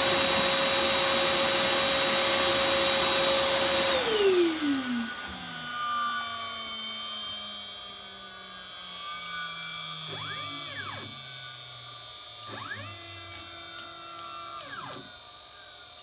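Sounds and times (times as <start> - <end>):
router spindle whining: 0.0 - 16.0.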